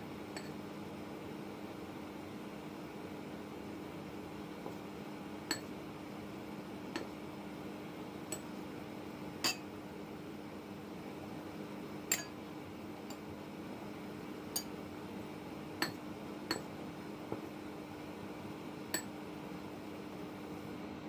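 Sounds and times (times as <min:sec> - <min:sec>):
steady low hum and hiss: 0:00.0 - 0:21.0.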